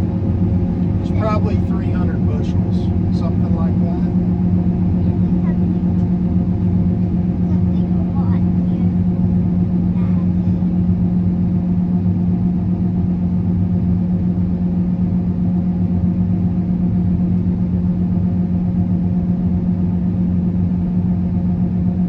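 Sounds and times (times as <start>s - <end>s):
combine harvester engine droning: 0.0s - 22.0s.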